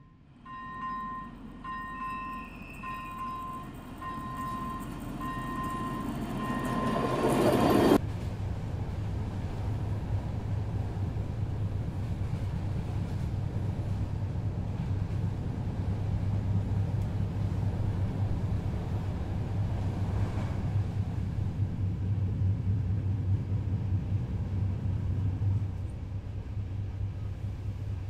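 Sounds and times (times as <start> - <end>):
diesel locomotive passing: 0.0 - 28.0
low rumble inside train coach: 0.0 - 28.0.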